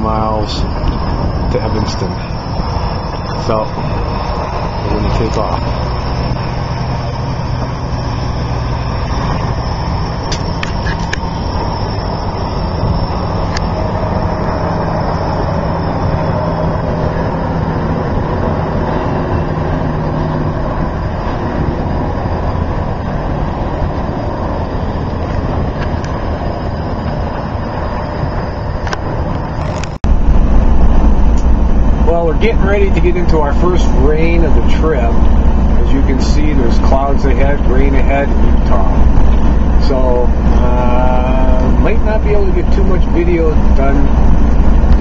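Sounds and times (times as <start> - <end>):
highway road noise in cab: 0.0 - 45.0
vehicle rumble with engine hum: 0.0 - 45.0.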